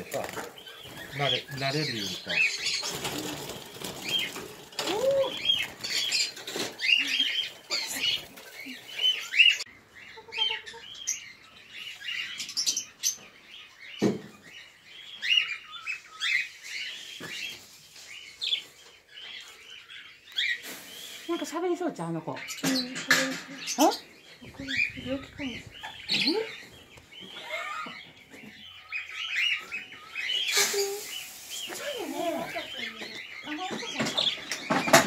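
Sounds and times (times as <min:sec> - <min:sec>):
budgerigars chirping: 0:00.0 - 0:04.5, 0:05.3 - 0:35.0.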